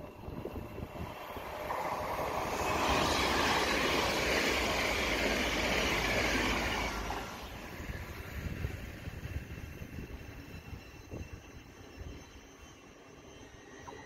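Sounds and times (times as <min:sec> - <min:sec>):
train wheel and air noise: 0:00.0 - 0:14.0.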